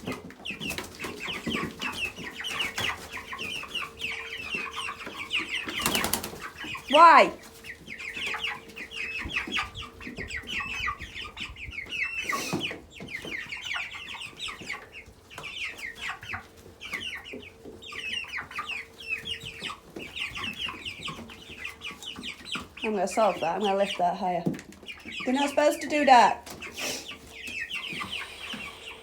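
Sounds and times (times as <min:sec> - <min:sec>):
chicks cheeping: 0:00.0 - 0:29.0.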